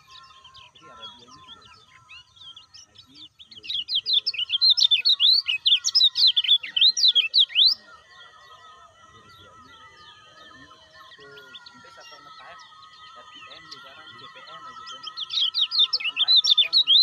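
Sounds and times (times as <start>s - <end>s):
bird singing rapid chirps: 0.0s - 17.0s
faint bird chirping: 0.0s - 17.0s.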